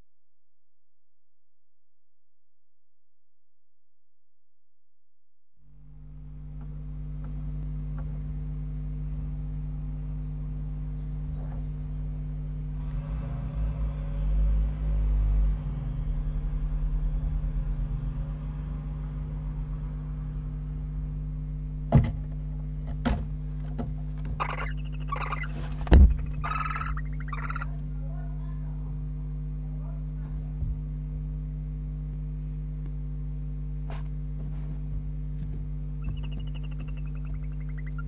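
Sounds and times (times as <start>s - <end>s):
low electrical hum: 5.6s - 38.0s.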